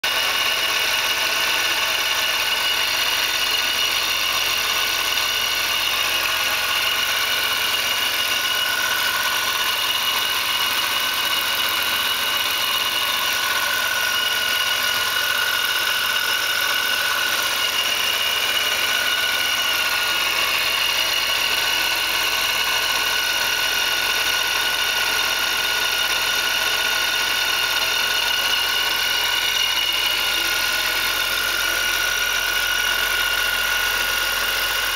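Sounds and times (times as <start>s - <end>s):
car engine idling: 0.0s - 34.9s
supercharger whine: 0.0s - 34.9s.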